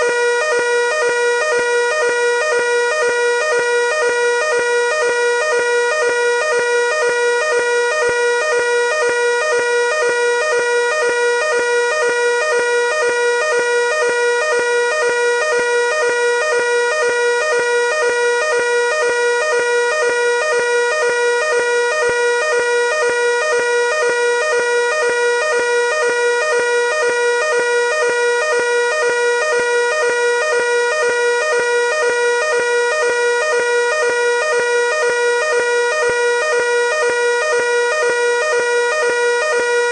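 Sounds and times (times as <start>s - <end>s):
two-tone fire alarm: 0.0s - 39.9s.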